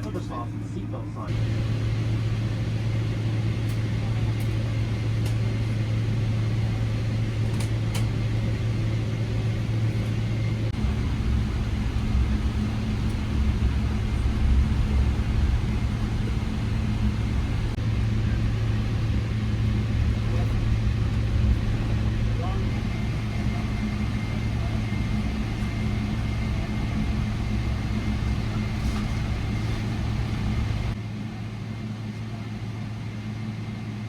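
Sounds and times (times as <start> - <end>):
airliner cabin hum: 0.0 - 34.0
deep low rumble: 1.3 - 31.0.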